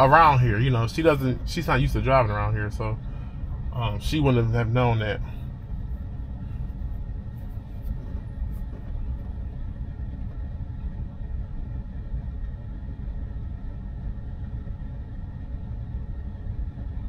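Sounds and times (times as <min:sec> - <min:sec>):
faint steady hum: 0:00.0 - 0:17.0
traffic rumble: 0:00.0 - 0:17.0.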